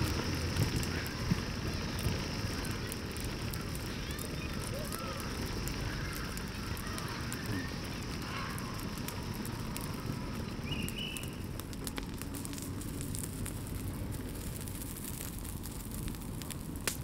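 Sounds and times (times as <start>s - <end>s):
sharp crackling clicks: 0.0s - 17.0s
steady hissing: 0.0s - 17.0s.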